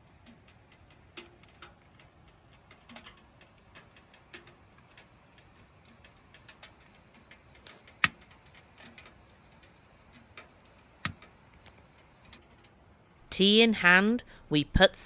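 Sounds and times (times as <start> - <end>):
wood stove crackling: 0.0 - 15.0.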